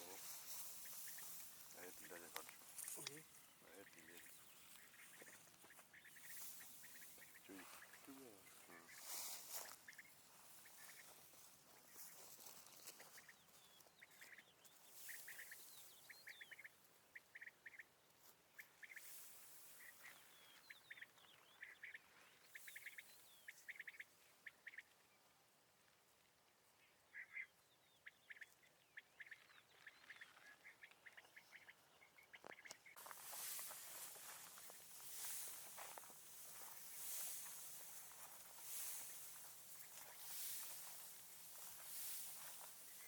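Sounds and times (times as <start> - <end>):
faint quail calls: 0.0 - 25.2, 26.8 - 43.0.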